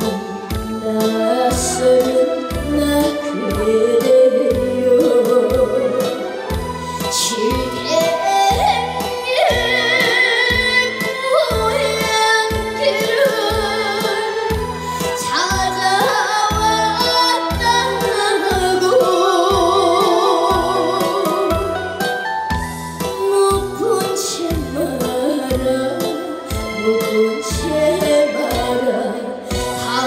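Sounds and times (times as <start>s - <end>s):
woman singing with vibrato: 0.0s - 22.0s, 23.1s - 30.0s
bass and drum backing track: 0.0s - 30.0s.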